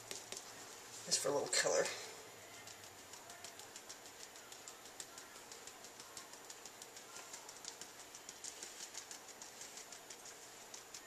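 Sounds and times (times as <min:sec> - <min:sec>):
spice tin shaken and tapped: 0:00.0 - 0:00.6, 0:02.6 - 0:11.0.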